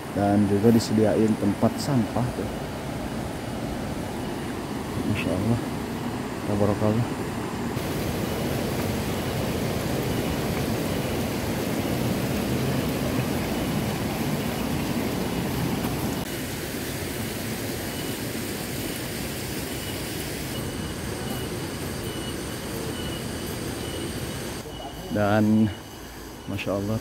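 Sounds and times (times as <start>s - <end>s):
river rushing: 0.0s - 21.8s.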